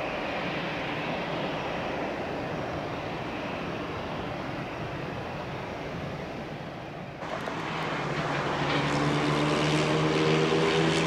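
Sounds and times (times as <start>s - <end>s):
airliner engines rumbling: 0.0s - 11.0s.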